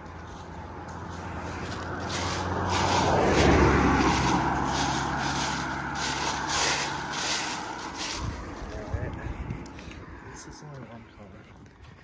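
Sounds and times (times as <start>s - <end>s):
car passing on asphalt: 0.0s - 12.0s.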